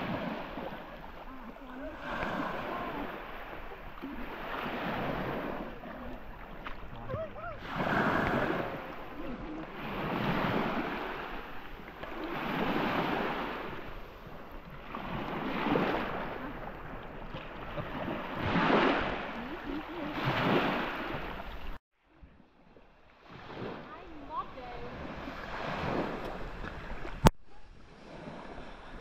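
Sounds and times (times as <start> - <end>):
small waves washing on sand: 0.0 - 21.8, 22.4 - 29.0.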